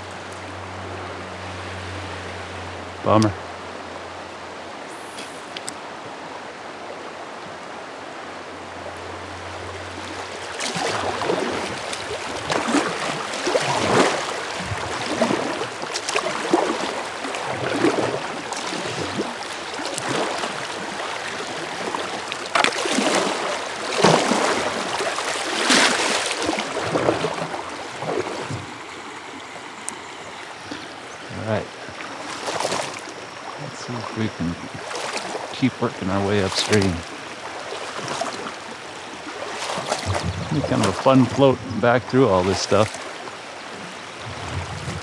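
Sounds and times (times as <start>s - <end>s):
river current rushing: 0.0s - 45.0s
paddle strokes splashing: 8.4s - 45.0s.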